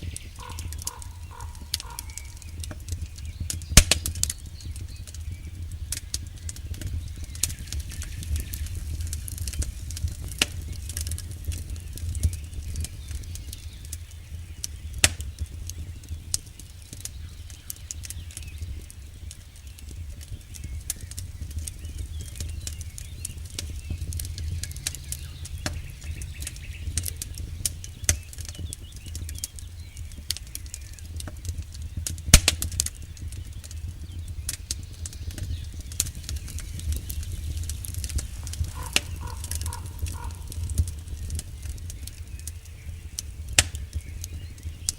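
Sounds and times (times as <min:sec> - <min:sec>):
campfire crackling and popping: 0:00.0 - 0:44.9
low steady fire rumble: 0:00.0 - 0:44.9.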